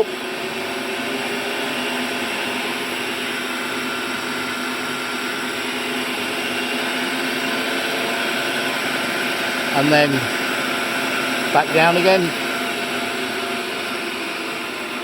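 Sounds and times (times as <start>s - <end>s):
electric motor hum and whine: 0.0s - 15.0s.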